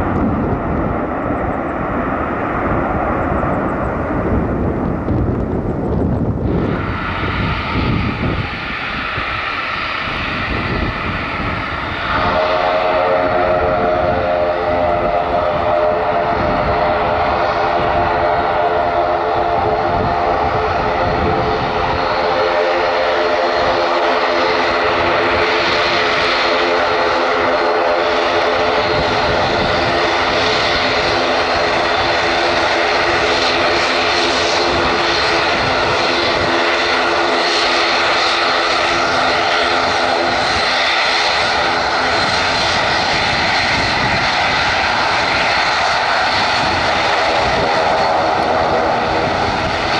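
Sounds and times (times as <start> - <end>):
airliner engines running: 0.0 - 49.9.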